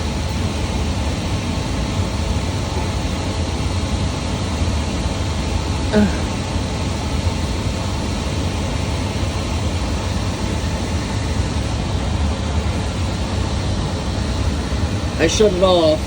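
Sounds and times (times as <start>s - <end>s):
furnace blower fan running: 0.0s - 16.0s.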